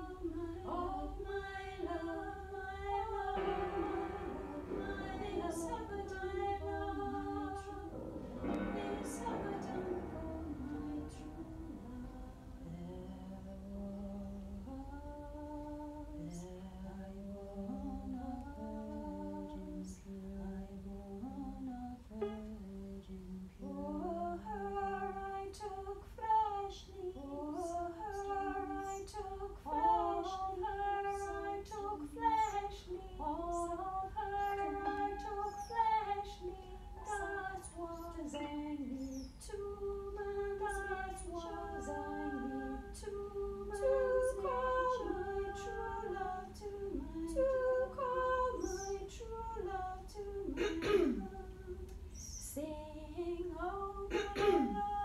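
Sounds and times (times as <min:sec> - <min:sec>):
woman singing unaccompanied: 0:00.0 - 0:55.0.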